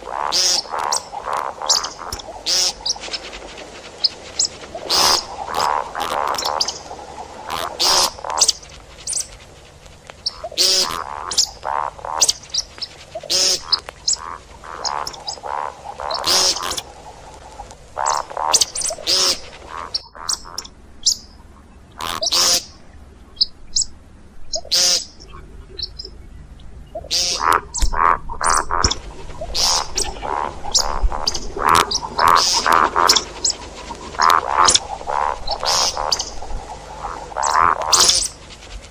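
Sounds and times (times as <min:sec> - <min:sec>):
game bird calls: 0:00.0 - 0:09.4, 0:10.2 - 0:20.7, 0:27.0 - 0:38.5.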